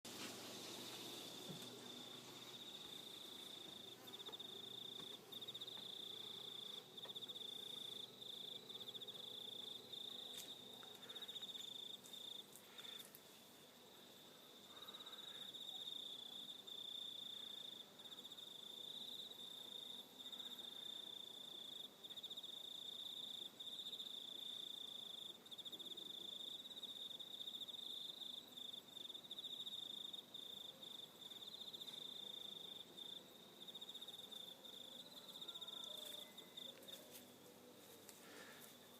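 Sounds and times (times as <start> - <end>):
insects trilling: 0.6 - 38.9.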